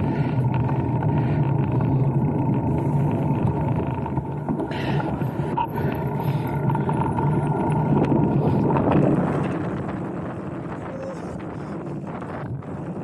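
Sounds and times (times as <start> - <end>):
bike rattle: 0.0 - 13.0
bike tyres rumbling on dirt: 0.0 - 13.0.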